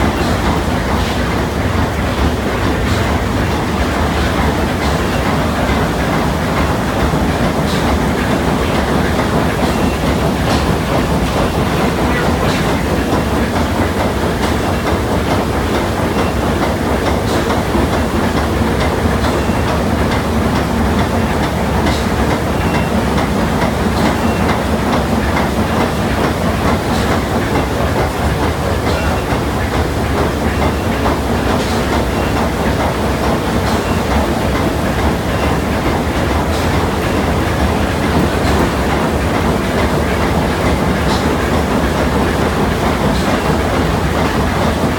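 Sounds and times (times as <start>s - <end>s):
steam engine running: 0.0s - 44.9s.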